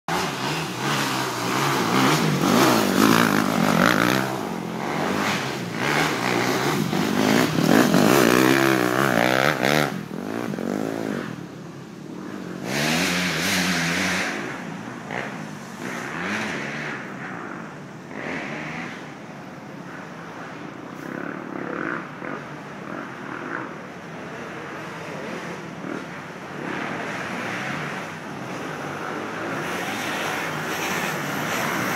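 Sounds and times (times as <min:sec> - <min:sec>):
dirt bike engines revving: 0:00.1 - 0:31.9.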